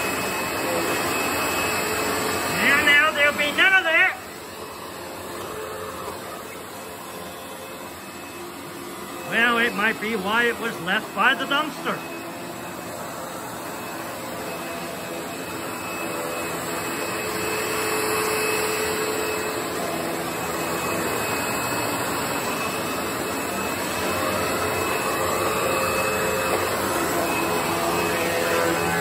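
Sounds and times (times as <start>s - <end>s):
vacuum cleaner motor running: 0.0s - 29.0s.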